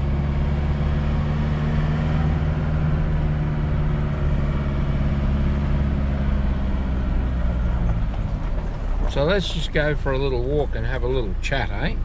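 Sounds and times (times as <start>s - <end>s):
tyre and road noise: 0.0s - 12.0s
vehicle engine running: 0.0s - 12.0s.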